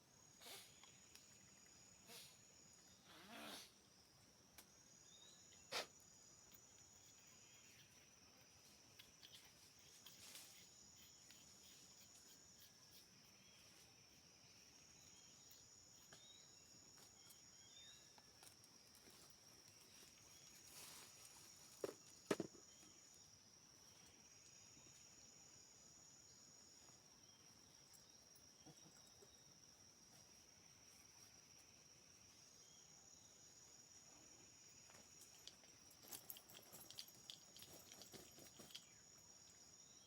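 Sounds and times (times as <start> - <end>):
forest insects droning: 0.0 - 40.0.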